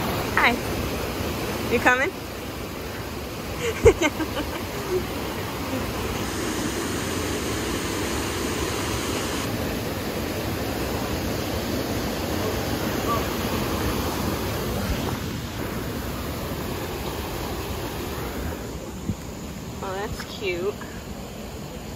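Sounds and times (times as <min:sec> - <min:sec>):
stream rushing over rocks: 0:00.0 - 0:21.9.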